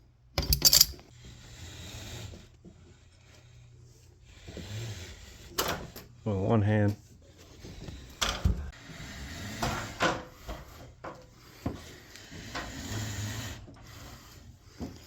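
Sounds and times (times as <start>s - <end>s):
lifting device clunking and scraping: 0.4s - 6.2s, 6.8s - 15.0s.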